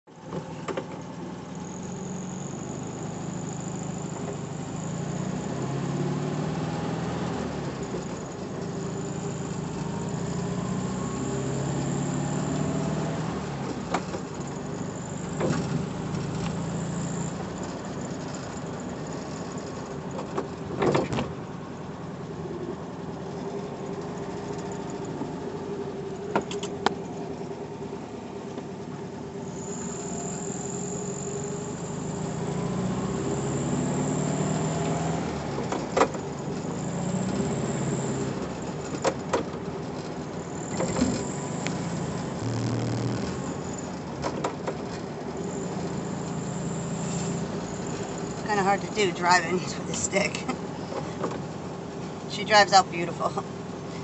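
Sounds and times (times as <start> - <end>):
car engine running: 0.1 - 54.0.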